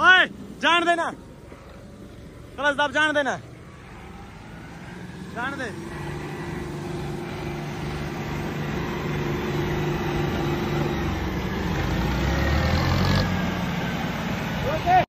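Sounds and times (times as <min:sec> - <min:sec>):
tractor diesel engines labouring: 0:00.0 - 0:15.0.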